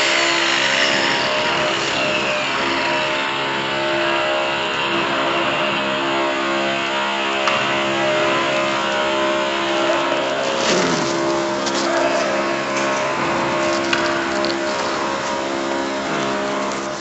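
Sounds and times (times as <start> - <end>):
electric concrete sander running: 0.0 - 17.0.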